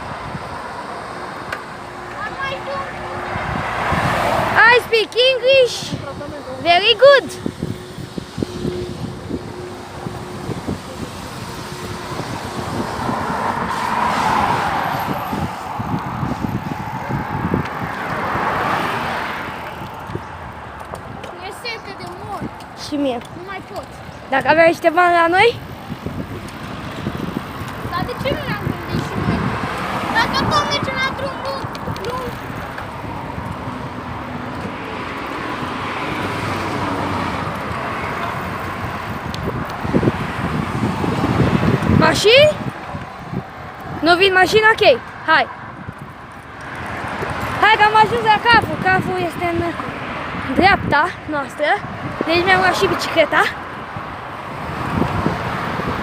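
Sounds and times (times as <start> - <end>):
cars passing by: 0.0 - 56.0.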